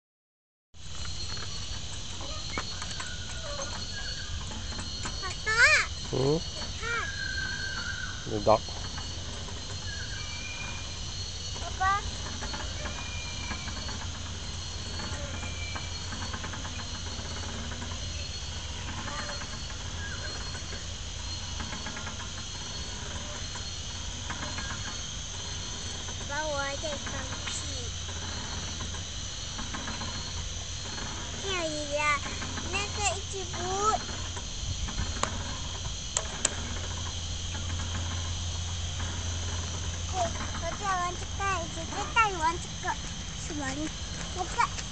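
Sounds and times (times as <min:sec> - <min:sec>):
insects trilling: 0:00.8 - 0:44.9
low steady hum: 0:00.8 - 0:44.9
low steady rumble: 0:00.8 - 0:44.9.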